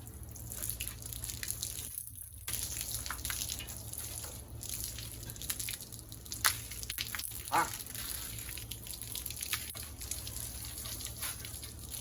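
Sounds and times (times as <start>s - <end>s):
water running and dripping: 0.0s - 12.0s.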